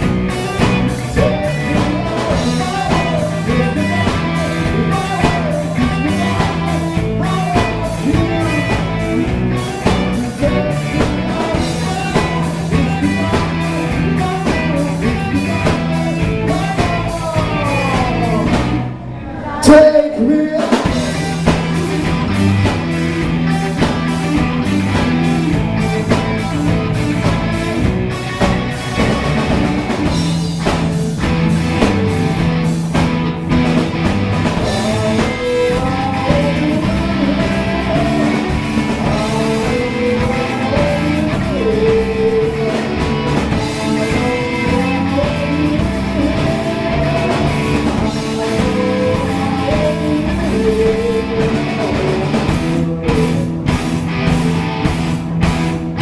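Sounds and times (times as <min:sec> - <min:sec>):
person singing: 0:00.0 - 0:32.6, 0:33.9 - 0:54.2
live rock band playing: 0:00.0 - 0:56.0.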